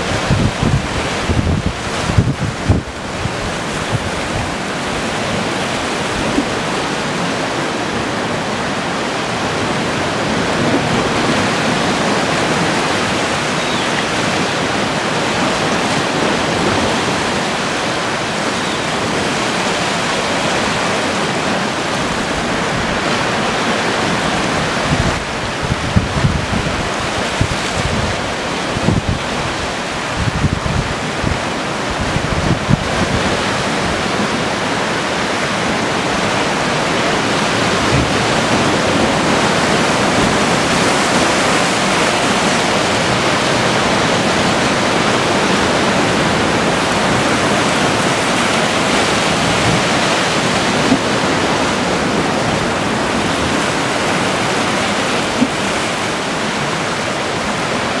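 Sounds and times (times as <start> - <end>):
surf breaking over rocks: 0.0 - 58.0
wind buffeting microphone: 0.0 - 58.0.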